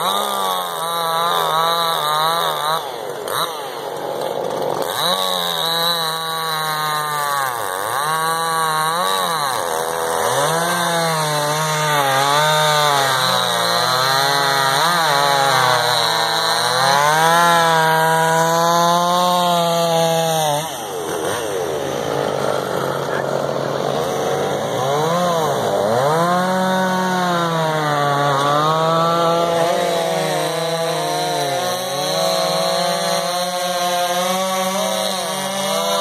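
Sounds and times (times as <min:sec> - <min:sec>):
chainsaw cutting logs: 0:00.0 - 0:36.0.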